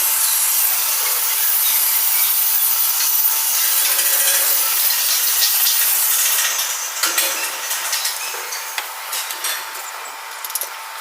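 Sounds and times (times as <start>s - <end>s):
harsh high rasping hiss: 0.0s - 9.0s.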